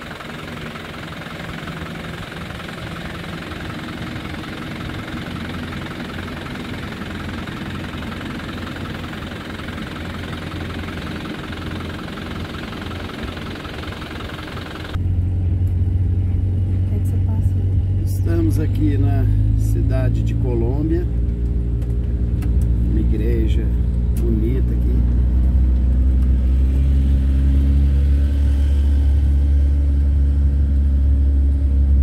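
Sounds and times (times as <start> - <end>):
van engine running: 0.0 - 32.0.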